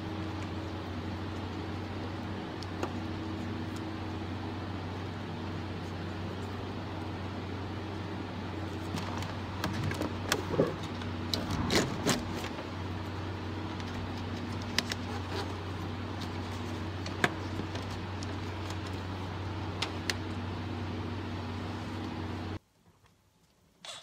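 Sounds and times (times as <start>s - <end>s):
steady low hum: 0.0s - 22.6s.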